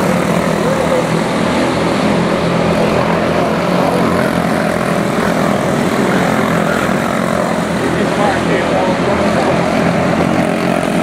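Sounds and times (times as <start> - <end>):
race car engines buzzing: 0.0 - 11.0.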